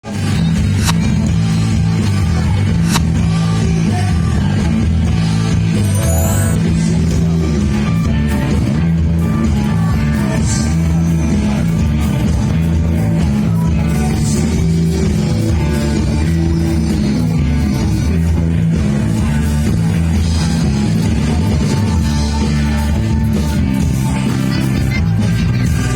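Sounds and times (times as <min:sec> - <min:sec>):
electric guitar: 0:00.0 - 0:25.9
live rock band playing: 0:00.0 - 0:25.9.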